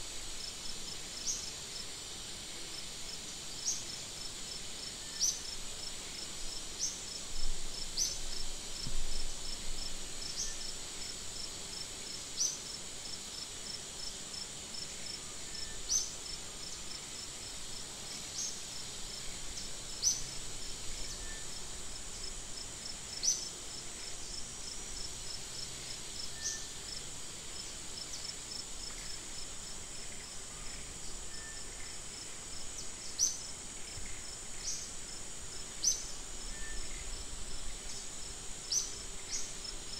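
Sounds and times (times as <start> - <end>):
insect buzzing trill: 0.1 - 8.5, 9.1 - 39.9.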